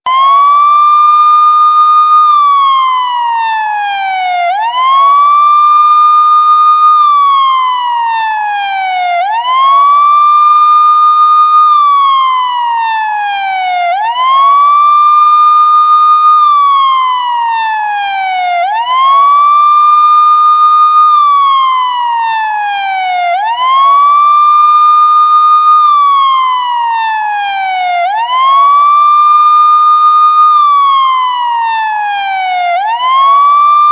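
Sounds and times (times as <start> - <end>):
police siren wailing: 0.0 - 33.9.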